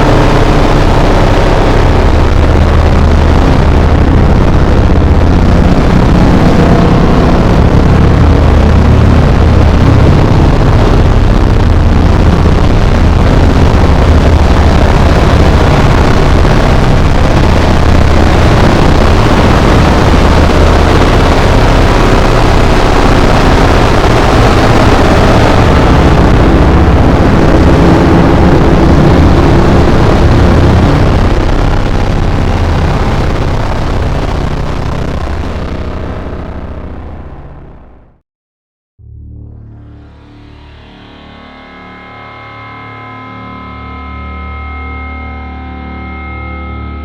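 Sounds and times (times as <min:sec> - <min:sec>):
steady low hum: 0:00.0 - 0:38.1, 0:39.0 - 0:47.0
distorted noise music: 0:00.0 - 0:38.2, 0:39.0 - 0:47.0.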